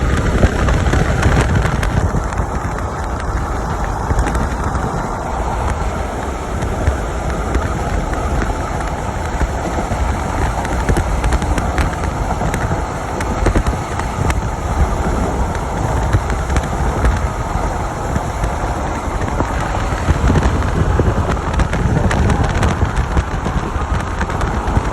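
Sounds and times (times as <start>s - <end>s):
vehicle road and wind noise: 0.0s - 24.9s.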